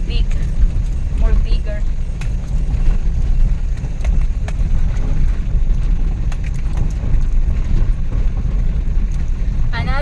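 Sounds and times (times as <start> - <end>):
road and engine rumble: 0.0 - 10.0.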